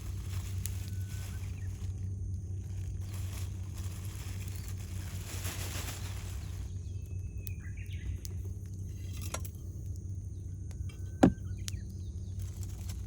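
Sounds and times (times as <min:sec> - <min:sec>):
campfire crackling: 0:00.0 - 0:13.0
steady low rumble: 0:00.0 - 0:13.0.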